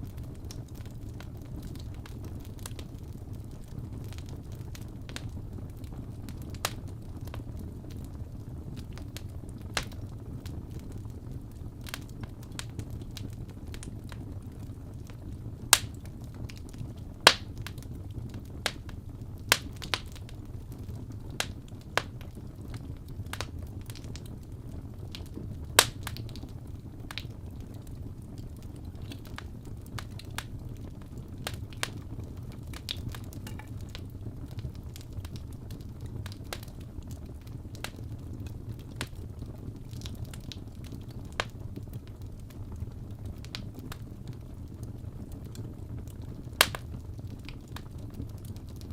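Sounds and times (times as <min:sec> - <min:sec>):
fire pops and snaps: 0:00.0 - 0:48.9
low rumble of burning fire: 0:00.0 - 0:48.9.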